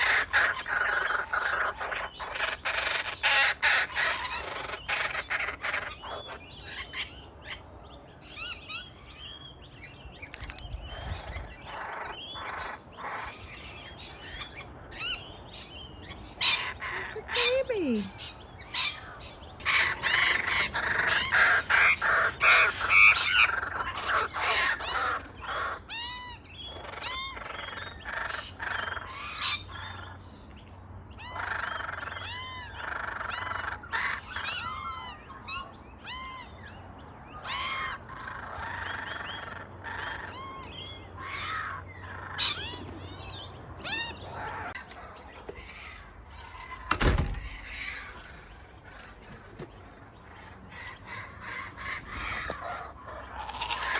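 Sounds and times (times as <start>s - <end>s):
birds chirping: 0.0s - 53.9s
birds squawking: 0.0s - 53.9s.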